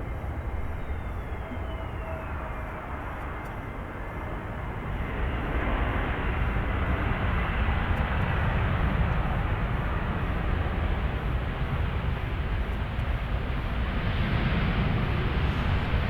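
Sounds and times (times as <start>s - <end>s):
faint engine whine: 0.0s - 16.0s
jet engines roaring: 0.0s - 16.0s.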